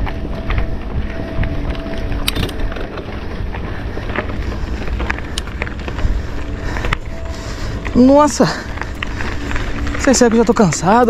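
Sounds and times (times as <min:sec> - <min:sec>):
bike clicks and rattles: 0:00.0 - 0:11.0
wind rumble on microphone: 0:00.0 - 0:11.0.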